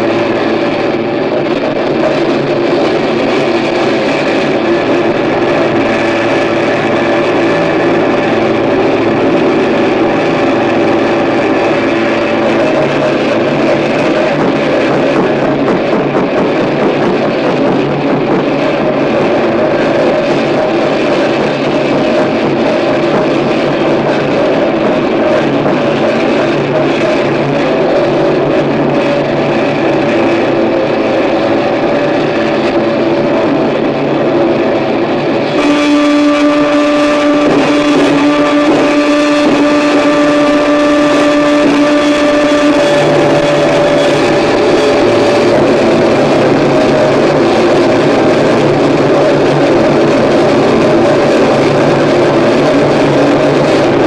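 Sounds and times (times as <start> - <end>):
droning tones: 0.0 - 54.0
harsh distorted noise music: 0.0 - 54.0.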